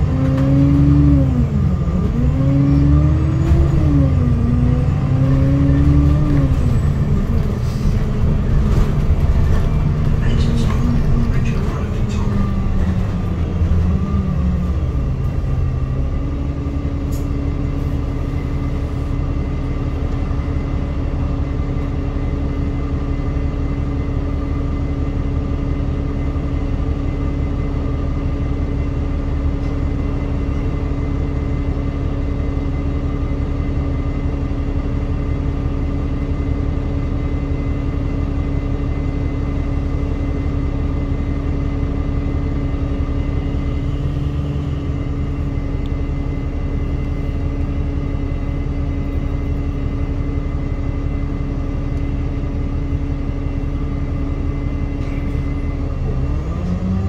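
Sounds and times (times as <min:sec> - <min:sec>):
bus diesel engine idling: 0:00.0 - 0:57.0
constant hum: 0:00.0 - 0:57.0.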